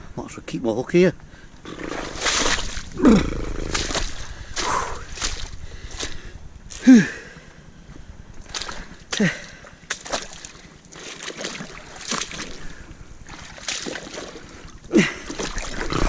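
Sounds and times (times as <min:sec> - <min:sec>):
boots wading through water: 0:01.6 - 0:07.4, 0:08.3 - 0:16.0.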